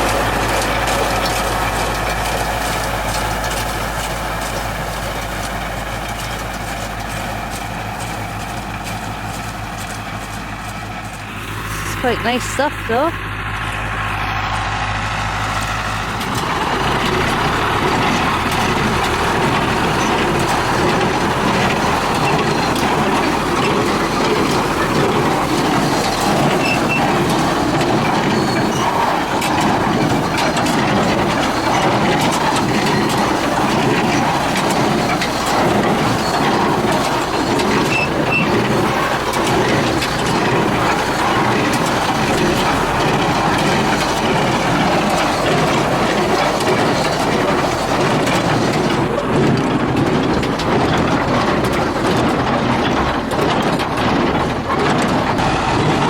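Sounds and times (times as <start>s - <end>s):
machinery clatter: 0.0s - 56.0s
tractor engine drone: 0.0s - 56.0s.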